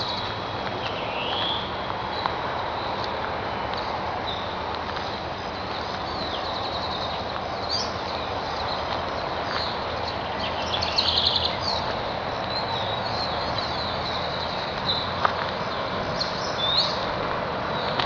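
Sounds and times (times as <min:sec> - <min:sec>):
background hiss and rumble: 0:00.0 - 0:18.0
small birds chirping: 0:00.0 - 0:18.0.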